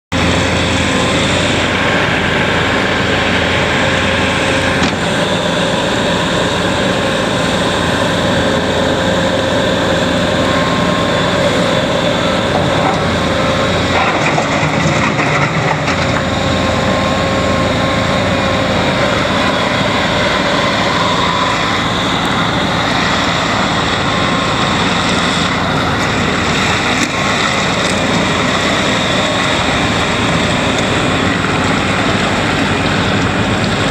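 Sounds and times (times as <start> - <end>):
track loader diesel engine drone: 0.0 - 33.9.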